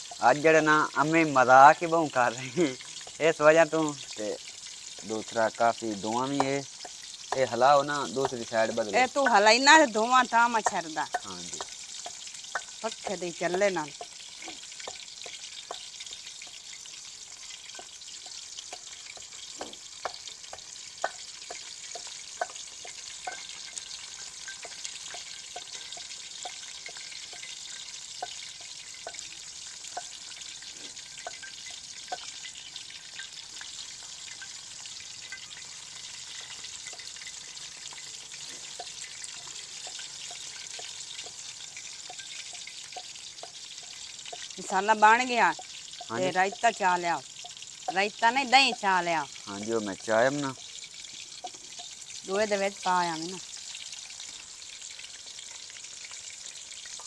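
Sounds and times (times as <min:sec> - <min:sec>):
food deep-frying in oil: 0:00.0 - 0:57.0.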